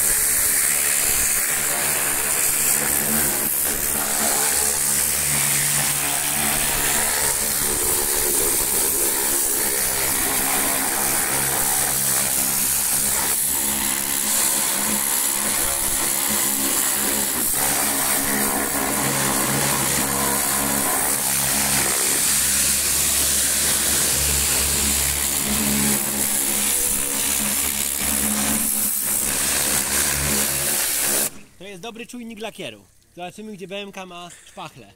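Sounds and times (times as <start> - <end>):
pressure washer motor droning: 0.0 - 31.3.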